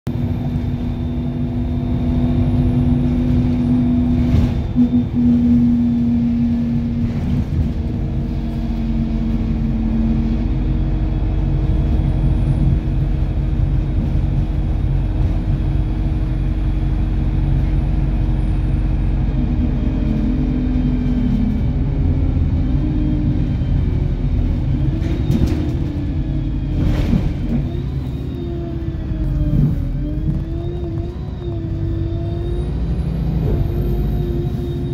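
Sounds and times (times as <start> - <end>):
car engine driving: 0.1 - 34.9
road rumble: 0.1 - 34.9.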